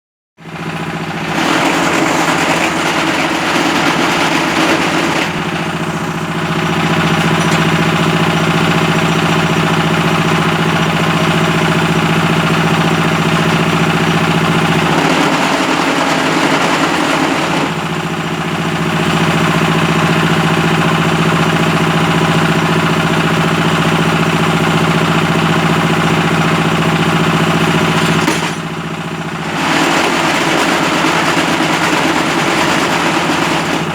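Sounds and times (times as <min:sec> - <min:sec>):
block making machine humming: 0:00.4 - 0:33.9.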